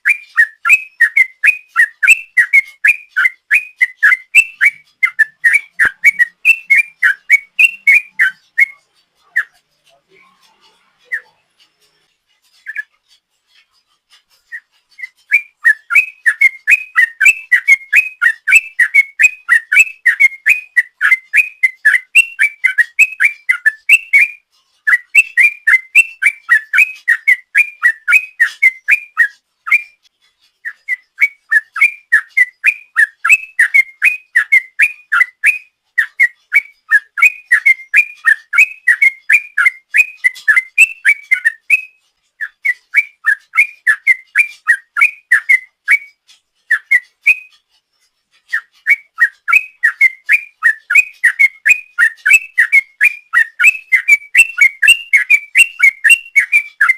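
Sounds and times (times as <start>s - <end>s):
bird whistling song: 0.0s - 56.9s.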